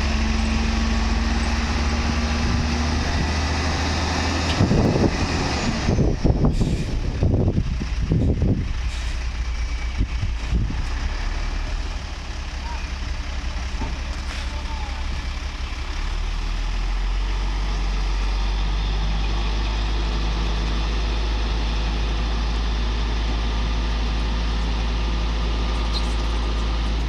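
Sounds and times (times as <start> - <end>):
heavy truck engine rumbling: 0.0 - 27.0.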